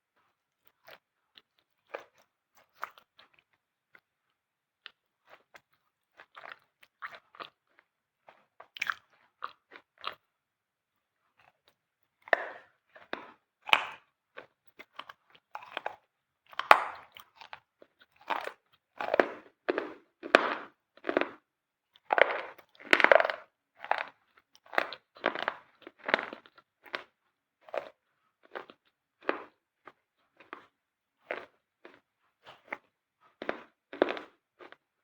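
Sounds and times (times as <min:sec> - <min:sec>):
crisp chewing crunches: 0:00.2 - 0:10.3, 0:11.3 - 0:34.9.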